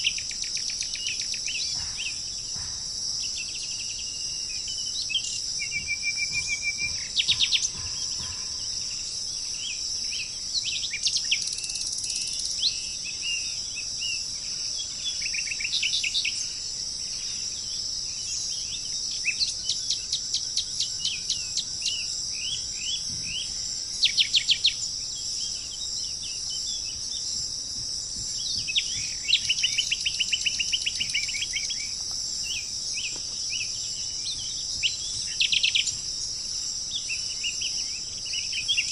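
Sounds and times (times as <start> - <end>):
birds chirping: 0.0 - 11.2, 18.2 - 38.8
insects droning: 0.0 - 38.9.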